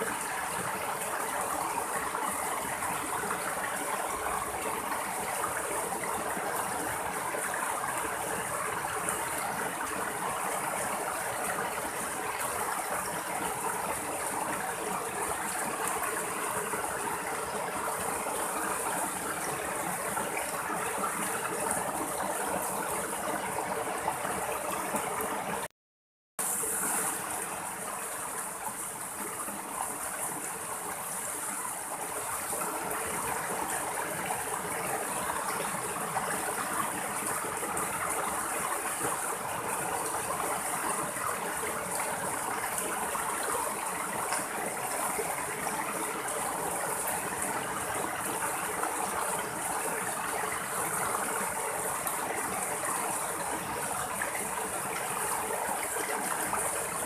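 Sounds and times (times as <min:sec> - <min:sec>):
stream rushing over rocks: 0:00.0 - 0:25.7, 0:26.4 - 0:57.0.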